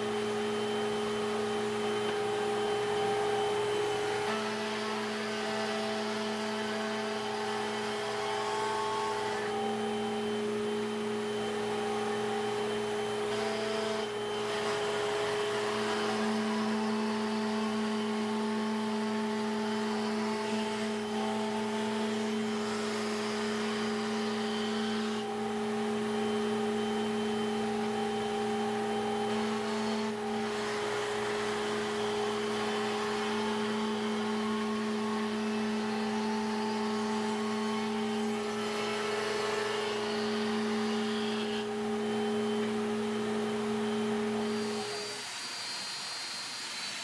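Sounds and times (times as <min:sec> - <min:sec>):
electric motor humming: 0:00.0 - 0:47.0.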